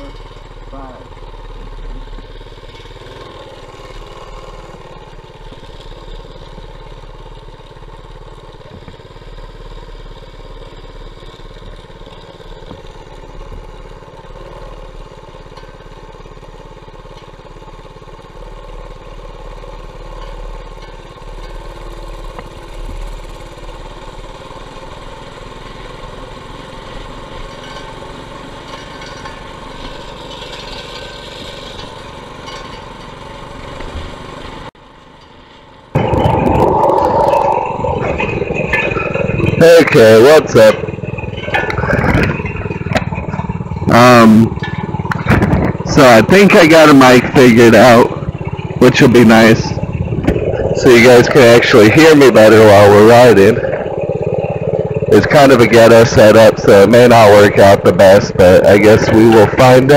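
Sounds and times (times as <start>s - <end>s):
mini bike engine running: 0.0s - 59.9s.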